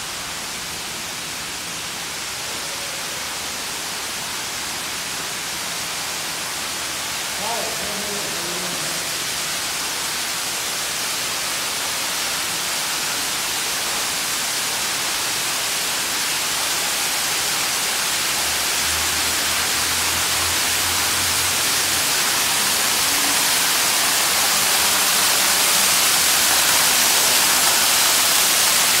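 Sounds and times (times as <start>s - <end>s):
water cascading and splashing: 0.0s - 29.0s.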